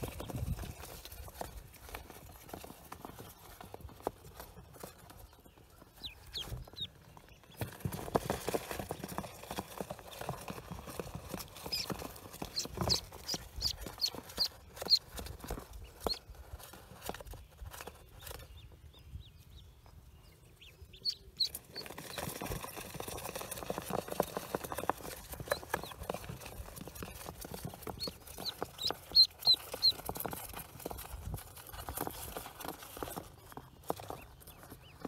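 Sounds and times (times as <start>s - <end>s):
ducklings peeping: 0.0s - 35.0s.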